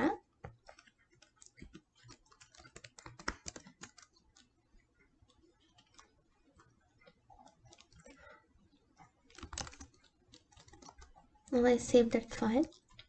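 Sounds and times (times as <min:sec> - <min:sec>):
faint keyboard typing: 0:00.0 - 0:13.0.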